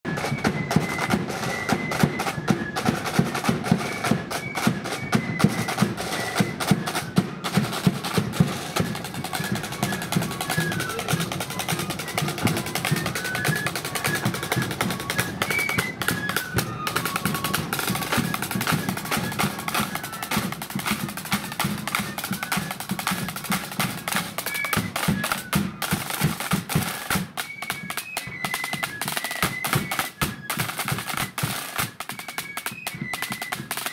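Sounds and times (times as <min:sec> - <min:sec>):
flutes playing melody: 0:00.0 - 0:33.9
snare drum rolls: 0:00.1 - 0:33.9.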